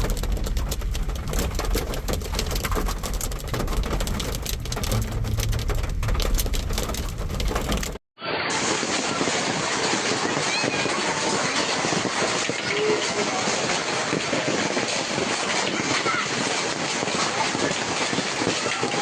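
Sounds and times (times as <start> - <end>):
hailstones clattering on hard surface: 0.0 - 19.0.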